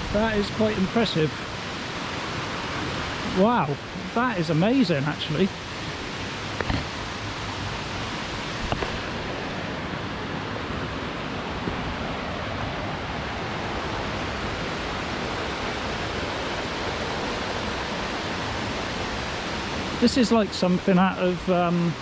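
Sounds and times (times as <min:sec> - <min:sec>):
rush of falling water: 0:00.0 - 0:22.0.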